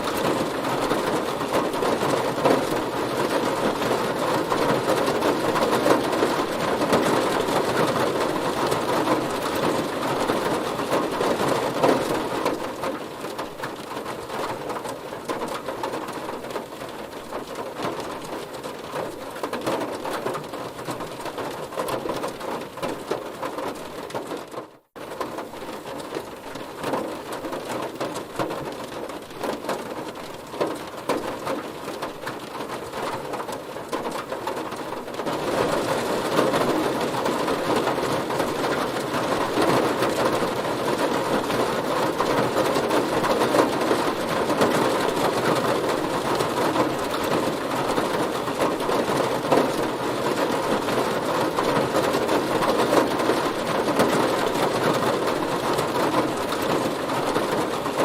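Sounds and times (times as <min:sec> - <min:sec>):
heavy rain on a car: 0:00.0 - 0:58.0.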